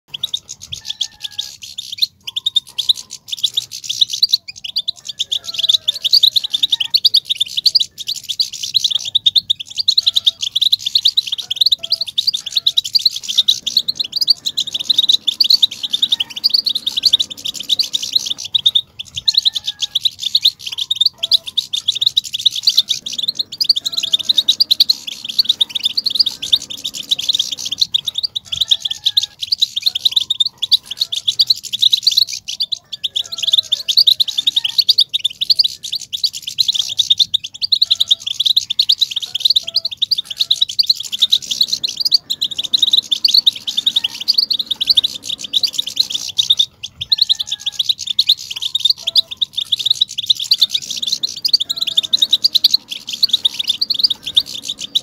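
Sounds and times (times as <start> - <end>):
goldfinch twittering song: 0.1 - 55.0.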